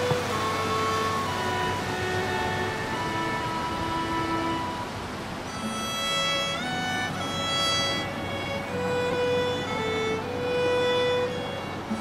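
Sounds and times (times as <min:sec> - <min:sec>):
fiddle playing held notes: 0:00.0 - 0:12.0.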